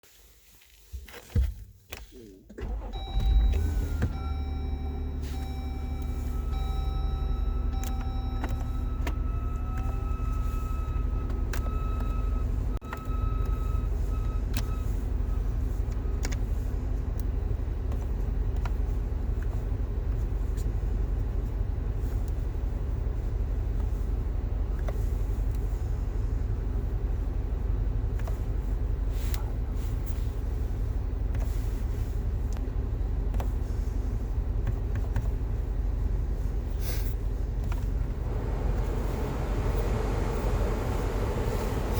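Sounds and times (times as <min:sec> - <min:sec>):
engine low rumble: 0:01.9 - 0:41.9.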